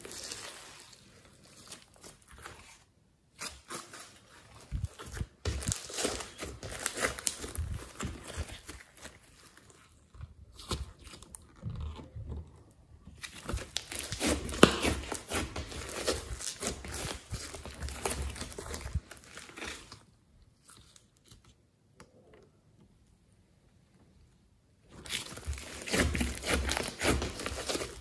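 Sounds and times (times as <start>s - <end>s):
slime crackling and squishing: 0.0s - 12.3s, 13.1s - 21.4s, 24.9s - 28.0s.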